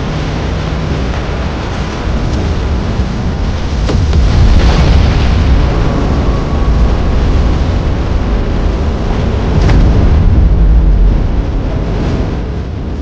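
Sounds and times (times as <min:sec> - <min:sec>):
deep explosive rumble: 0:00.0 - 0:13.0.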